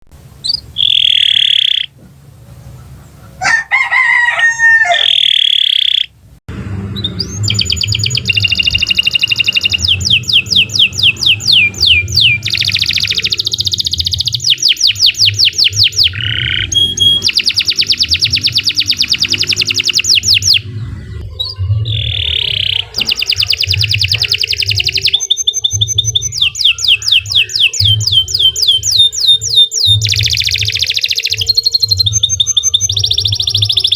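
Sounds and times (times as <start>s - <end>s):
canary singing trills: 0.4s - 2.0s, 4.6s - 6.2s, 7.0s - 33.9s.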